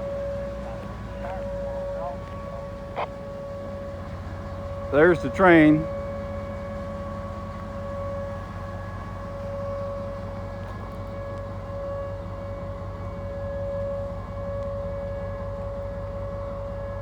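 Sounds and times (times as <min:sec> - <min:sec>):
low steady rumble: 0:00.0 - 0:16.4
siren wailing: 0:00.0 - 0:17.0.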